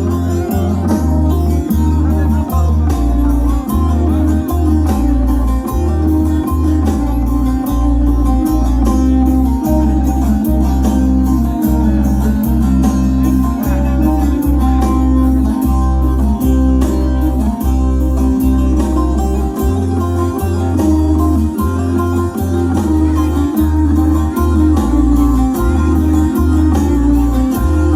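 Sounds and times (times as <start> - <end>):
plucked string instrument: 0.0 - 27.9
pulsing bass line: 0.0 - 27.9.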